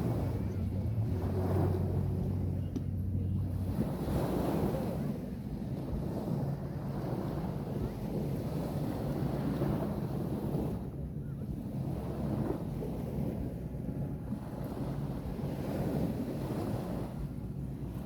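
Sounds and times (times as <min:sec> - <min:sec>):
ocean surf washing onto beach: 0:00.0 - 0:11.0, 0:11.6 - 0:18.0
wind rumble on microphone: 0:00.0 - 0:18.0.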